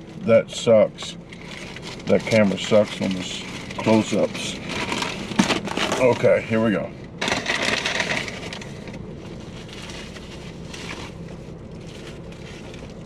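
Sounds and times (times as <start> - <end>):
steady low hum: 0.0 - 13.0
paper wrapper crinkling: 1.3 - 6.3, 7.2 - 13.0.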